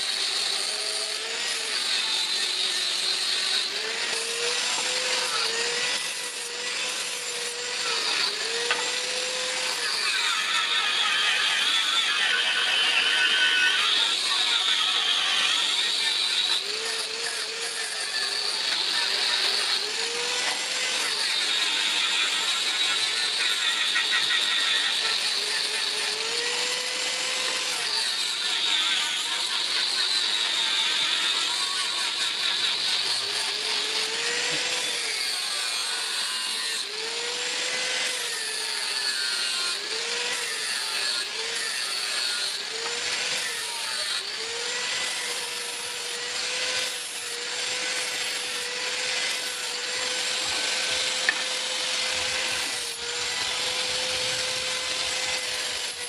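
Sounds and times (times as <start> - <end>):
electric grinder grinding metal: 0.0 - 56.0.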